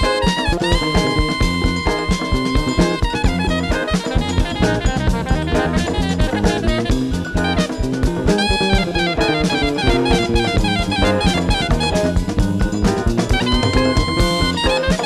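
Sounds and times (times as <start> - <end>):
bass line: 0.0 - 15.0
drum kit groove: 0.0 - 15.0
saxophone melody: 0.0 - 15.0.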